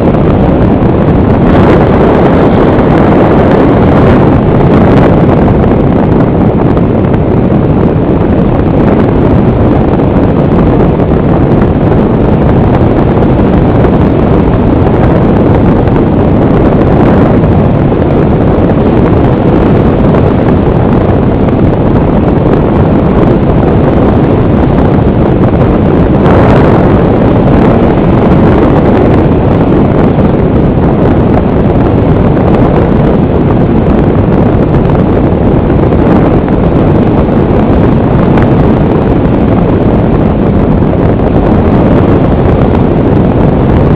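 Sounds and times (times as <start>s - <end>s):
propeller whine: 0.0s - 43.9s
wind rushing: 0.0s - 43.9s.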